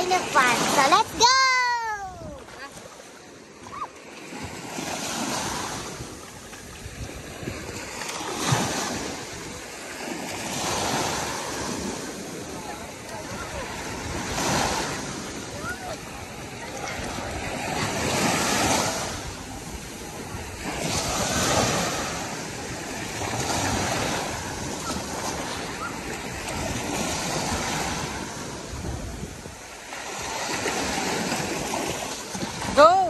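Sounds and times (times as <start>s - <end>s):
sea waves washing on beach: 0.0s - 33.0s.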